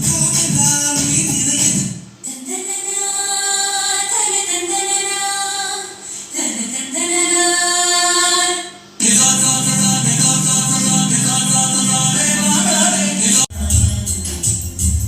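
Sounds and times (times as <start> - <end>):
song through speaker: 0.0 - 5.8, 6.4 - 15.0.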